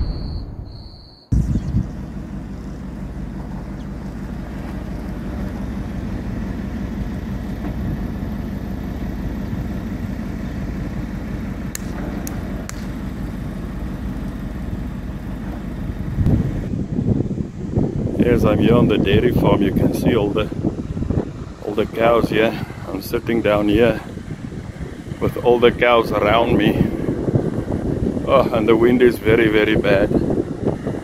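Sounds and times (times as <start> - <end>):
wind buffeting microphone: 1.3 - 31.0.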